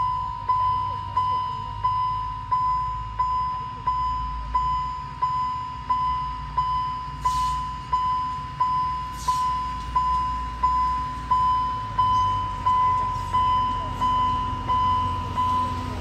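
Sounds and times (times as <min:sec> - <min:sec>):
diesel locomotive running: 0:00.0 - 0:16.0
level-crossing warning bell ringing: 0:00.0 - 0:16.0.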